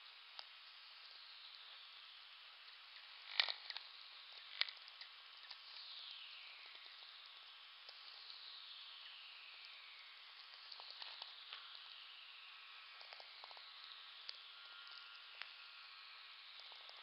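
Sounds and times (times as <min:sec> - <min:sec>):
crackling hiss: 0:00.0 - 0:17.0.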